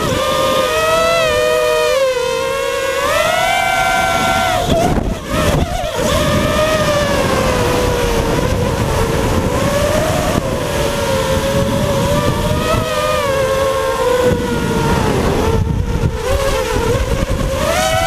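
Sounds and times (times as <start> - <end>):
drone motors whining: 0.0 - 18.0
steady rushing noise: 0.0 - 18.0.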